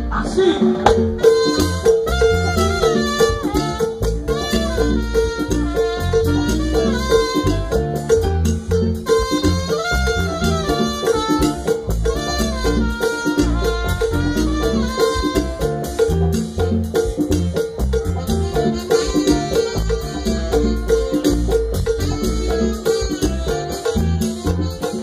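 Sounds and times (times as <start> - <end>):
bass: 0.0 - 25.0
steady percussion beat: 0.0 - 25.0
horn lines: 0.5 - 8.1, 9.0 - 16.0, 18.0 - 25.0.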